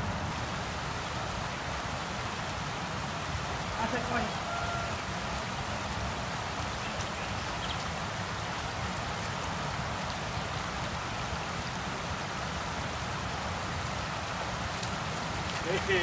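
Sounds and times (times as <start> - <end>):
stream running over stones: 0.0 - 16.0.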